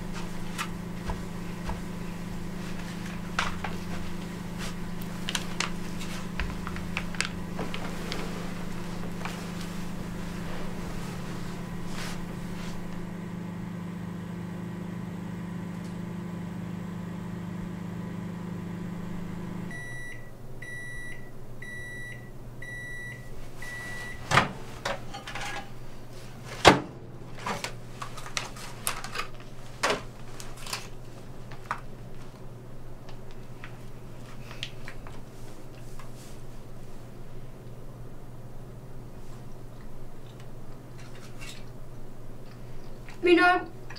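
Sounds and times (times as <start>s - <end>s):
microwave oven humming: 0.0s - 43.9s.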